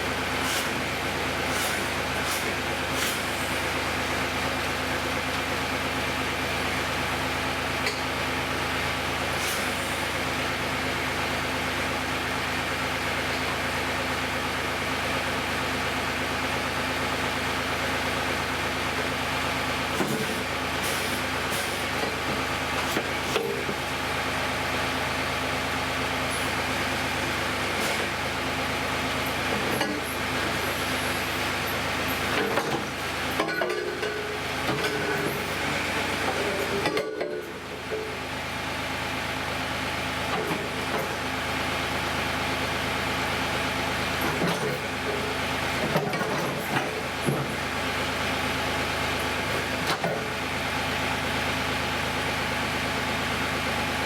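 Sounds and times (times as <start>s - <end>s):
heavy equipment engine running: 0.0s - 54.0s.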